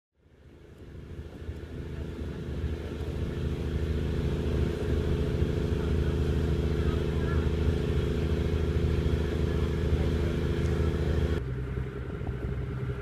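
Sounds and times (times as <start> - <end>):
boat engine droning: 0.2 - 13.0.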